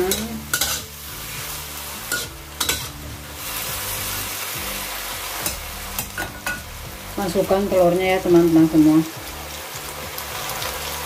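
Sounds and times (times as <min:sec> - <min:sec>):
spatula scraping wok: 0:00.0 - 0:11.0
vegetables sizzling in a wok: 0:00.0 - 0:11.0.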